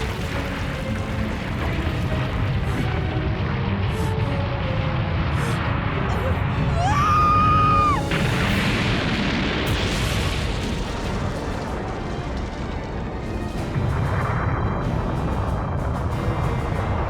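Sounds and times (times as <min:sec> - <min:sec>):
dramatic orchestral music: 0:00.0 - 0:17.0
booming explosions: 0:00.1 - 0:16.0.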